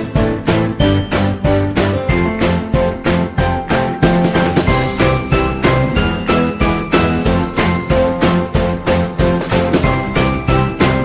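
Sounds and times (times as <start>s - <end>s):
music with jingling bell percussion: 0.0s - 3.2s, 4.6s - 11.0s.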